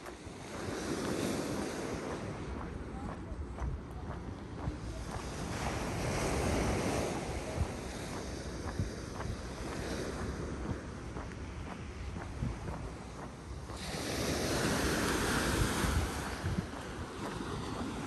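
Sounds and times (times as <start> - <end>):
waves on pebble beach: 0.0 - 18.0
wind rumbling on microphone: 0.0 - 18.0.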